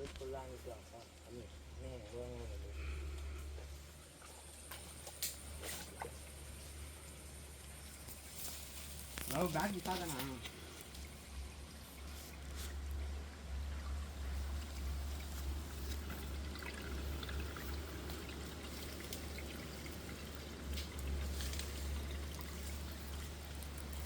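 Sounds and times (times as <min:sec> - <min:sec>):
water trickling and pouring: 0:04.0 - 0:24.0.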